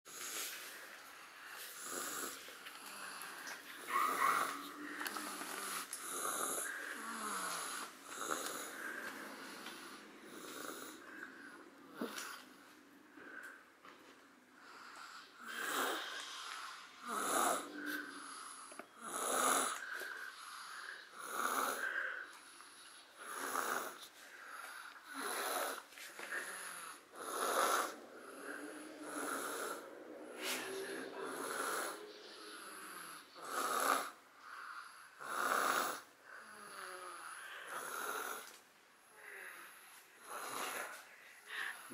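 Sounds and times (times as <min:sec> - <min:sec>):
person snoring: 0:00.1 - 0:12.5, 0:14.6 - 0:41.9.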